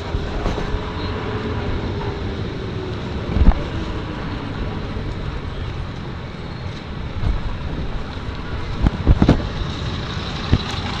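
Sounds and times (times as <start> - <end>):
wind buffeting microphone: 0.0 - 6.3, 7.0 - 11.0.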